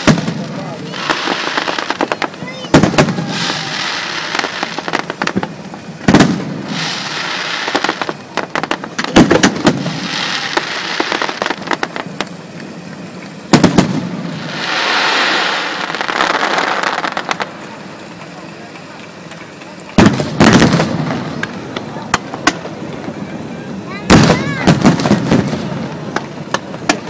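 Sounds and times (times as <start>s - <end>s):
crackling and hissing sparks: 0.0s - 27.0s
firework shells bursting: 0.0s - 27.0s.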